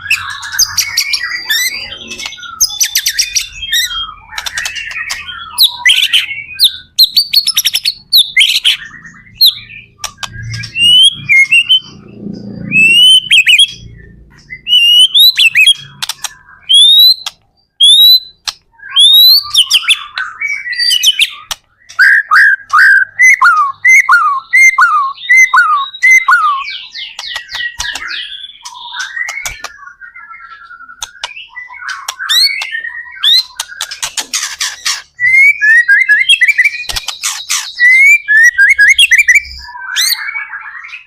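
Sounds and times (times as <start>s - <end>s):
bird singing: 0.0s - 41.0s.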